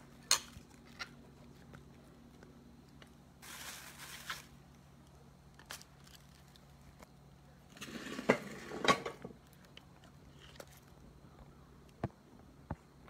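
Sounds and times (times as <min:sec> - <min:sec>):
rustling and crinkling items: 0:00.0 - 0:13.0.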